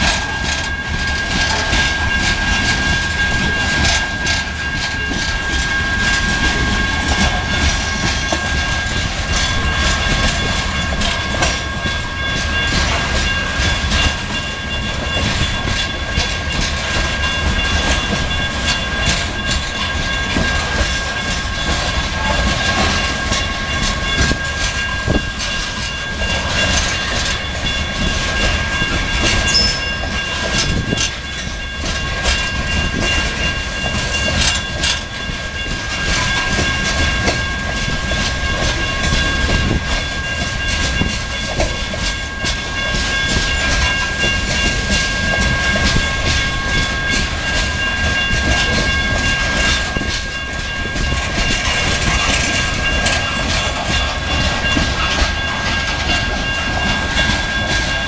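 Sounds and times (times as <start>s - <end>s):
high ringing tone: 0.0s - 58.0s
hopper cars rumbling: 0.0s - 58.0s
wheels clicking over rail joints: 0.0s - 58.0s.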